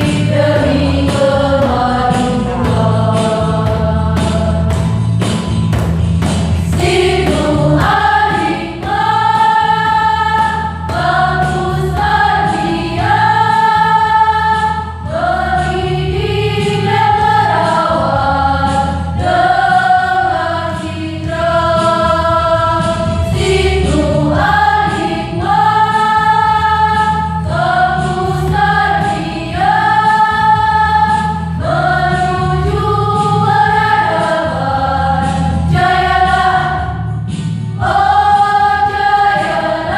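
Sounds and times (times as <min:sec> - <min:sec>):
choir singing slow song: 0:00.0 - 0:05.4, 0:06.6 - 0:39.9
low accompaniment: 0:00.0 - 0:39.9.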